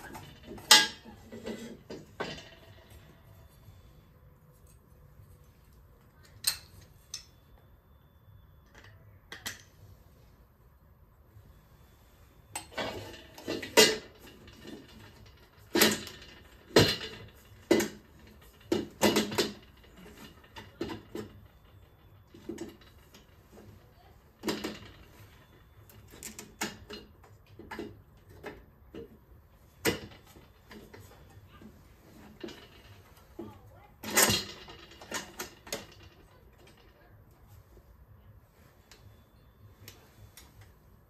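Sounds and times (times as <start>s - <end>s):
metal tools clinking and knocking: 0.0s - 7.7s, 11.8s - 40.9s.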